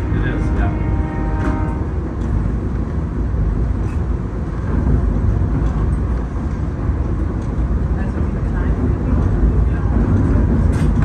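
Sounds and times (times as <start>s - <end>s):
railcar rolling along track: 0.0s - 11.0s.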